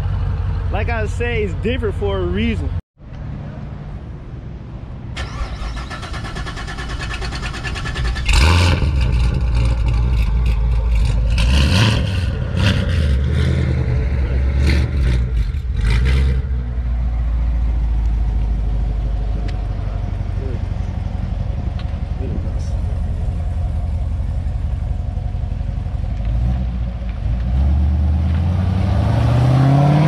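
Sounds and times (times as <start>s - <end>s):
car engine rumbling and revving: 4.8s - 30.0s.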